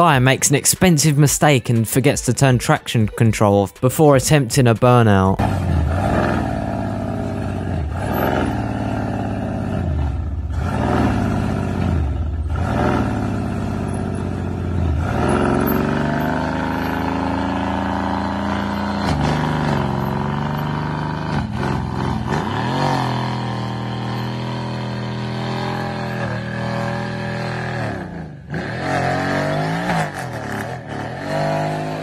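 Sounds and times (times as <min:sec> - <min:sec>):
car engine revving: 0:05.4 - 0:32.0.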